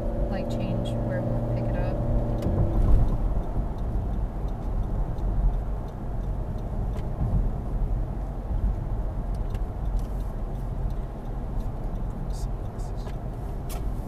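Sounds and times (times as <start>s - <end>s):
car tyre and engine rumble: 0.0s - 14.0s.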